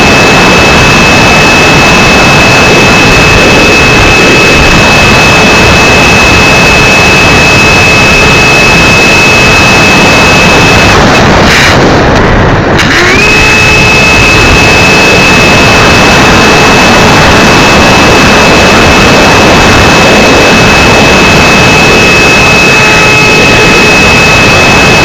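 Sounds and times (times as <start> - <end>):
high motor whine: 0.0 - 25.0
rushing wind noise: 0.0 - 25.0.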